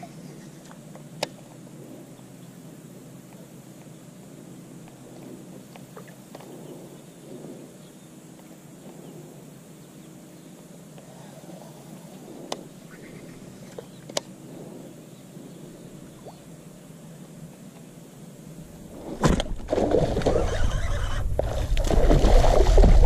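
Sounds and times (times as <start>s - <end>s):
boat motor humming: 0.0s - 18.9s, 19.6s - 21.8s.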